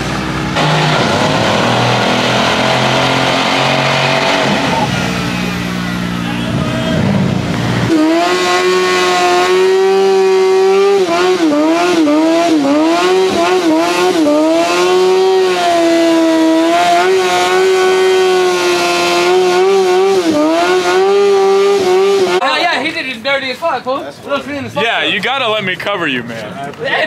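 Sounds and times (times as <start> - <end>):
motorcycle engine at high revs: 0.0 - 6.2, 7.0 - 22.4.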